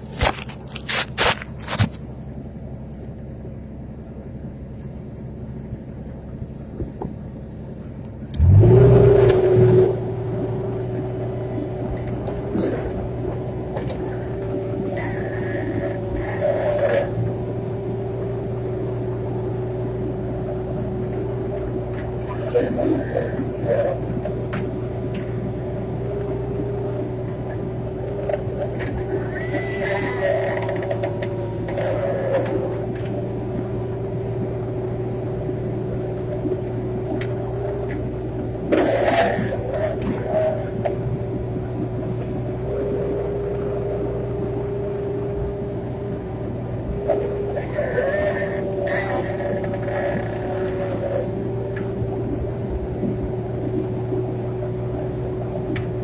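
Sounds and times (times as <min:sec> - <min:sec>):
diesel engine idling and revving: 0:00.0 - 0:56.0
high engine whine: 0:00.0 - 0:56.0.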